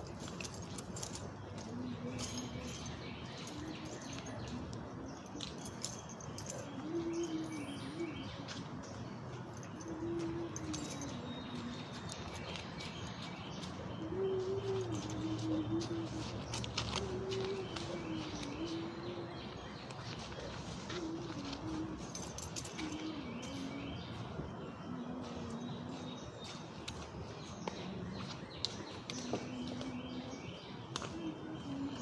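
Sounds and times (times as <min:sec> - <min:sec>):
dove cooing: 0:00.0 - 0:28.4, 0:29.0 - 0:32.0
small birds chirping: 0:00.0 - 0:32.0.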